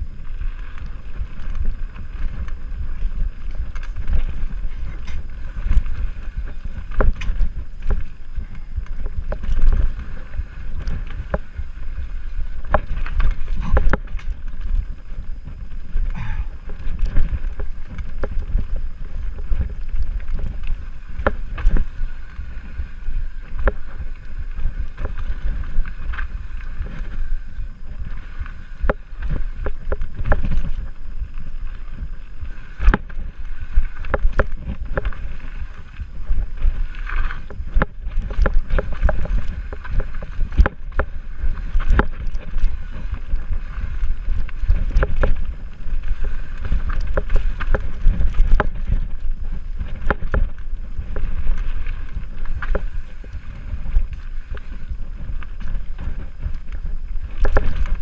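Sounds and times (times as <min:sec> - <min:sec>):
bike knocking and rattling: 0:00.0 - 0:58.0
tyre and wind rumble: 0:00.0 - 0:58.0.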